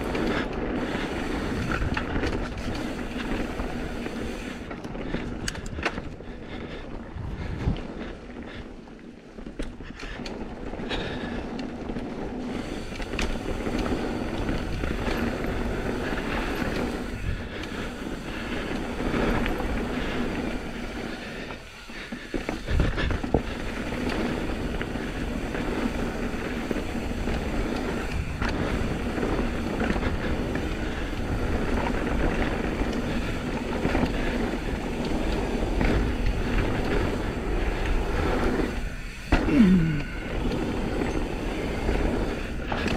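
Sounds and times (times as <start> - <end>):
bike tyres rumbling on dirt: 0.0 - 42.9.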